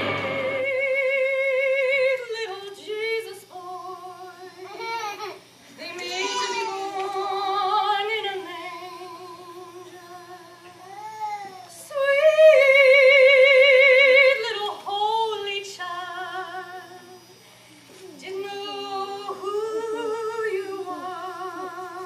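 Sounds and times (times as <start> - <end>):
woman singing: 0.0 - 4.6, 5.8 - 10.8, 11.8 - 17.2, 18.2 - 22.0.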